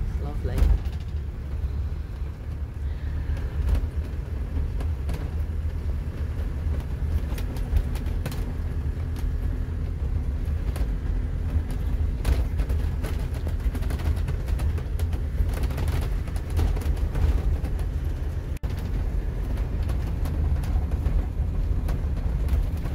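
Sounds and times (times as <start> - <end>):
engine and road rumble: 0.0 - 22.9.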